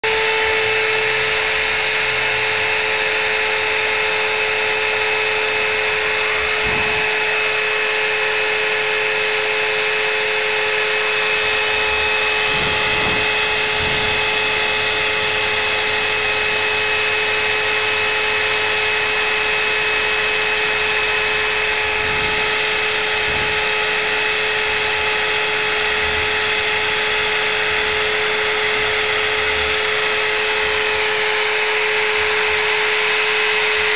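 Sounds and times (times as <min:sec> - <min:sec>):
low motor tones: 0:00.0 - 0:33.9
router spindle whining: 0:00.0 - 0:33.9.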